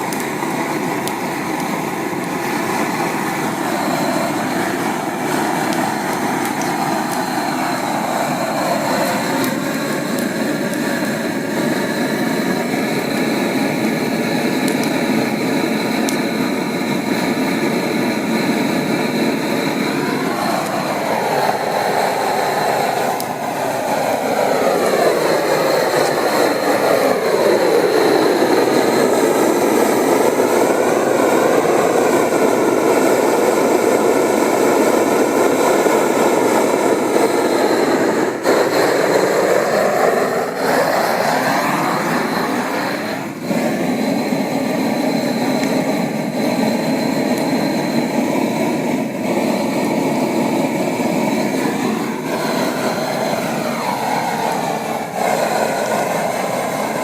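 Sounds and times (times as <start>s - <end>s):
vehicle engine roar: 0.0s - 57.0s.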